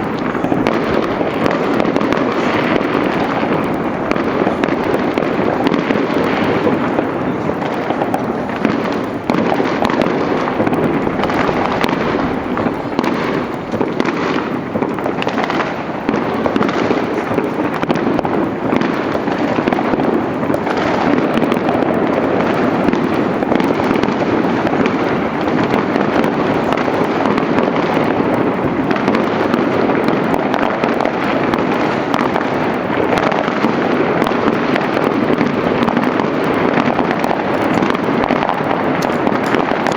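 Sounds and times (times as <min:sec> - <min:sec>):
fireworks crackling and popping: 0:00.0 - 0:39.9.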